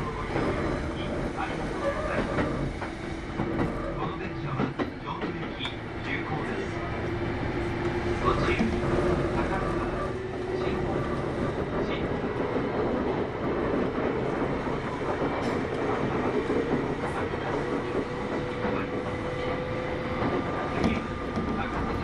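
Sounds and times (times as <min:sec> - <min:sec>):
train wheels rolling on rail: 0:00.0 - 0:22.0.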